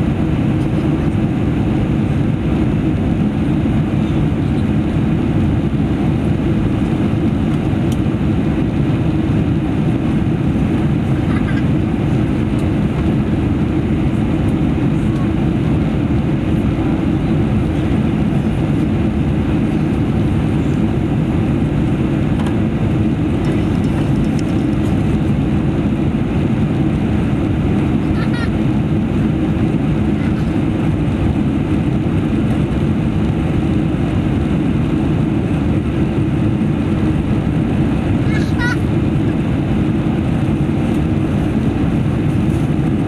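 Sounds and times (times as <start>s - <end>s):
airplane cabin engine roar: 0.0s - 43.0s.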